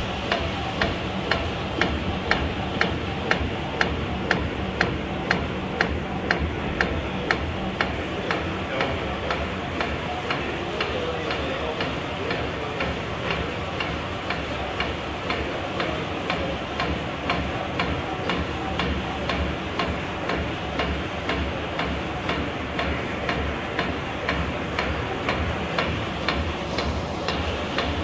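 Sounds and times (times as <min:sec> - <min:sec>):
printing press clicking: 0:00.0 - 0:28.0
printing press hum: 0:00.0 - 0:28.0.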